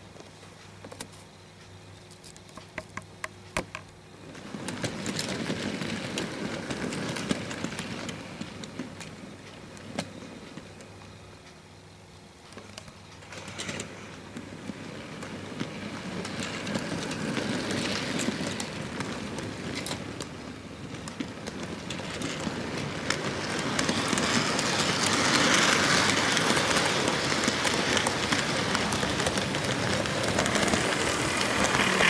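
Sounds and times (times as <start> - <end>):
clicks at rail joints: 0.2 - 11.6, 12.4 - 32.0
model train wheels rumbling: 4.0 - 32.0.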